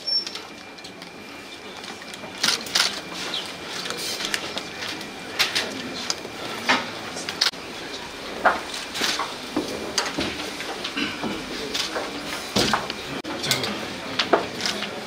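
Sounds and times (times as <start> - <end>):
low murmur of voices: 0.0 - 15.0.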